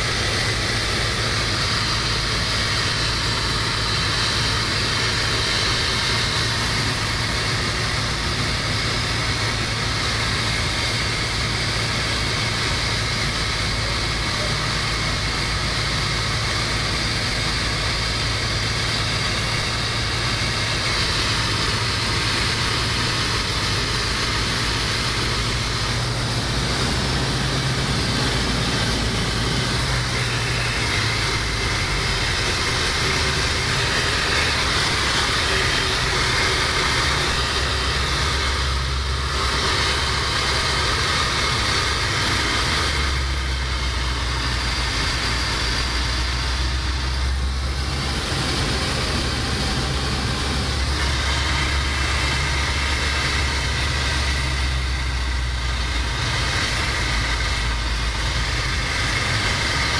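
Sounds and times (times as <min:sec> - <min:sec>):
light aircraft engine drone: 0:00.0 - 0:59.9
rushing air: 0:00.0 - 0:59.9.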